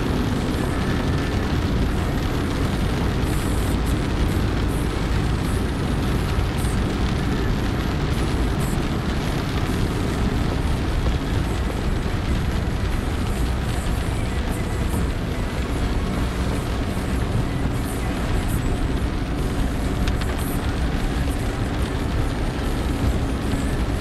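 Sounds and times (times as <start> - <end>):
rain on car body: 0.0 - 24.0
tyres on wet road: 0.0 - 24.0.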